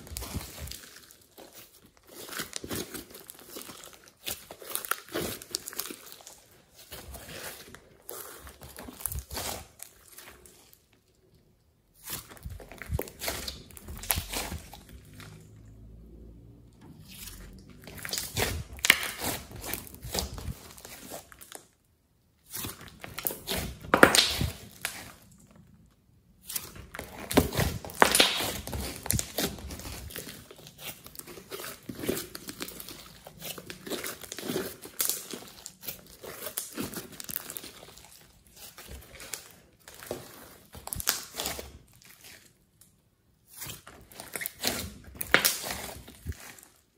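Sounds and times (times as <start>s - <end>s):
hands squishing slime: 0.0s - 46.9s.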